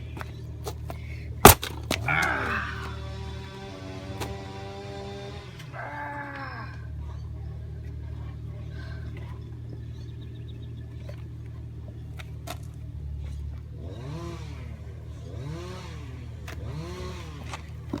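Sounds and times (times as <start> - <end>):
low engine-like drone: 0.0 - 18.0.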